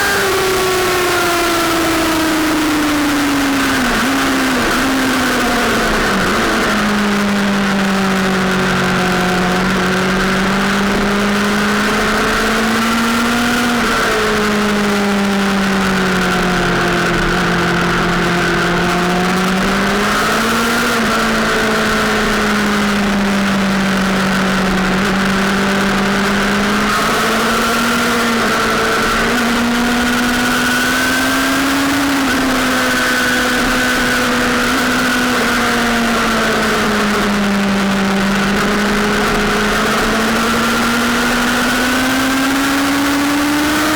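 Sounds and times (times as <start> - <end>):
constant rush of noise: 0.0 - 43.9
sportbike engine running hard: 0.0 - 43.9.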